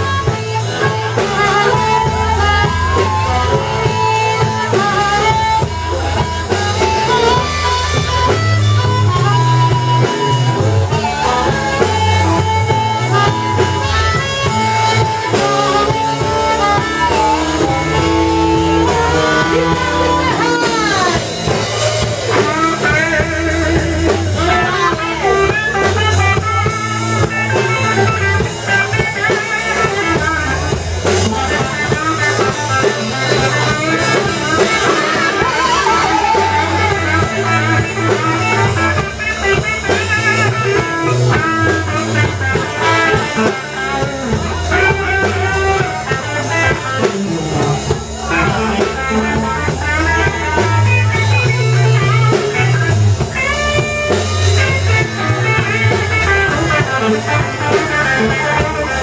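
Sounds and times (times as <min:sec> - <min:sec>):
bass line: 0:00.0 - 0:59.0
drum kit: 0:00.0 - 0:59.0
electric guitar solo: 0:00.0 - 0:59.0.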